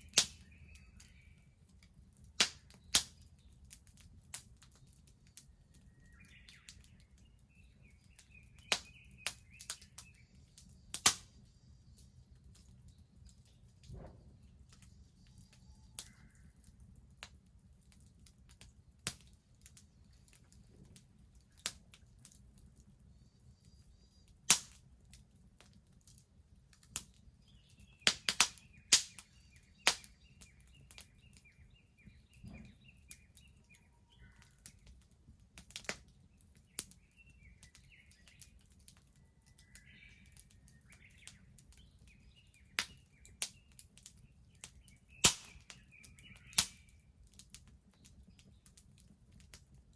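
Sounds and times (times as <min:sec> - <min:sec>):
birds chirping: 0:00.0 - 0:18.0, 0:18.7 - 0:24.9, 0:26.8 - 0:49.8
fire popping: 0:00.0 - 0:49.9
wood bonfire crackling: 0:00.0 - 0:49.9.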